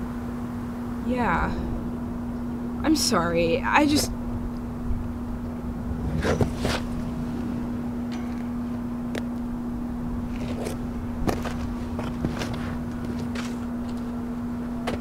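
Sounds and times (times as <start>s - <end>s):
steady low hum: 0.0s - 15.0s
rumbling noise: 1.0s - 14.4s.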